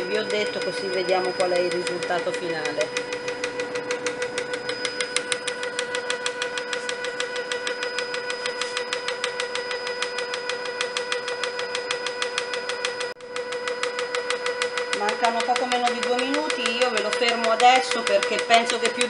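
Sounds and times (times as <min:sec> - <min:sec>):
food processor motor hum: 0:00.0 - 0:19.0
whisk fast ticking: 0:00.0 - 0:19.0.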